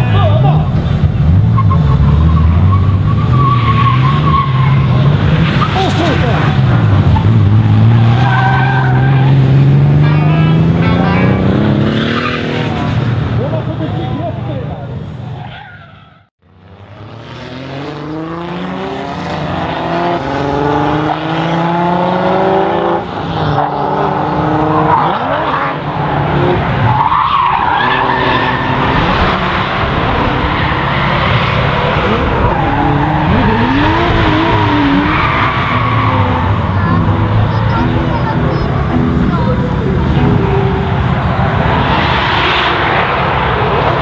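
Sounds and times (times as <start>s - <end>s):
tyres squealing and skidding: 0.0s - 13.5s, 15.1s - 16.3s, 23.3s - 44.0s
car engines revving hard: 0.0s - 15.4s, 16.4s - 44.0s.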